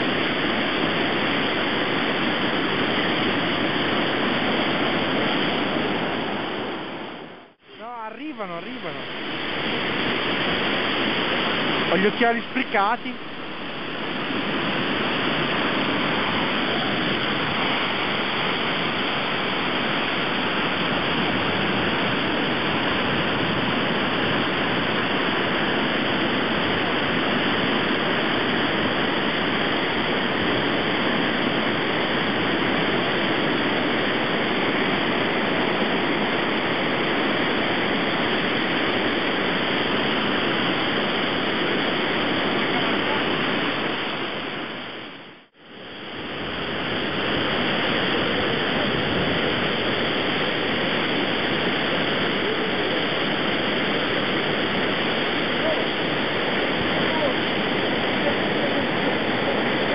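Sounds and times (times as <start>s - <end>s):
water rushing over spillway: 0.0s - 59.9s.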